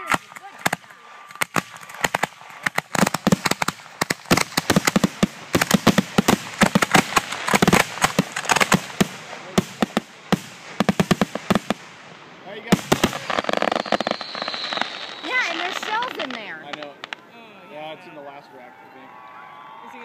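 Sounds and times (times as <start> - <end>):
fireworks barrage of sharp bangs: 0.0 - 17.3.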